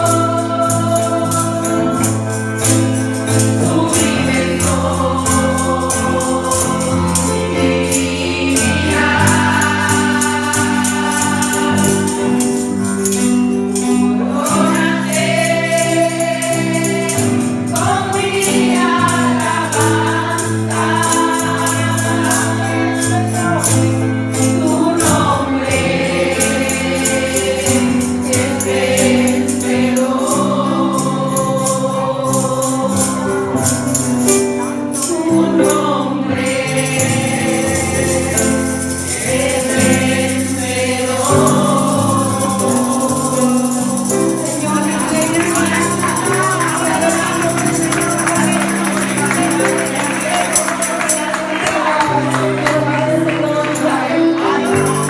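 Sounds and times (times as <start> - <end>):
group singing worship song: 0.0 - 55.0
keyboard and bass notes: 0.0 - 55.0
tambourine shaken: 0.0 - 55.0.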